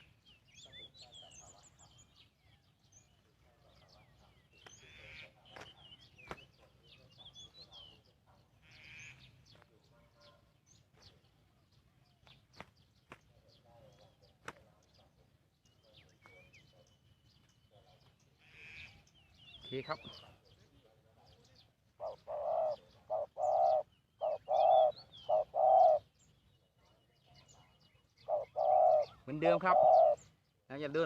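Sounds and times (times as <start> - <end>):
faint bird chirps: 0.0 - 31.0.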